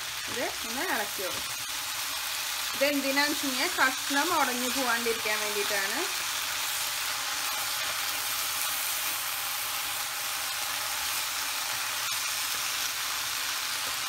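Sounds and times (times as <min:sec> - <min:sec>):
vegetables sizzling in a pan: 0:00.0 - 0:14.0.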